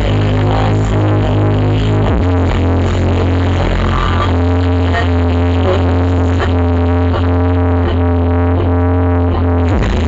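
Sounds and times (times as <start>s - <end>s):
electronic dance music with heavy bass: 0.0s - 10.0s.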